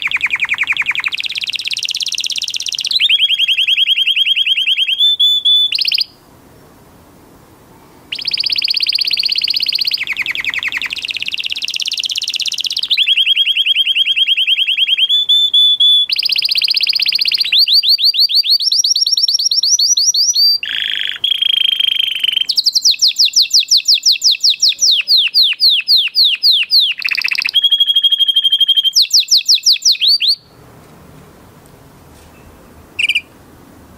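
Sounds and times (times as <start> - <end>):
parrot trilling chirps: 0.0 - 6.2, 8.1 - 30.5, 32.5 - 33.4.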